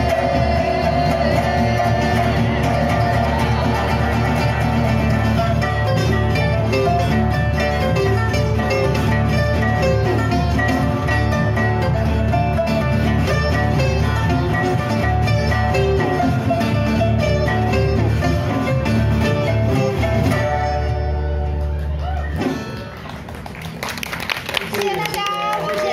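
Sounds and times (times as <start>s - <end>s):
plucked pipa and resonator guitar blues: 0.0s - 22.9s.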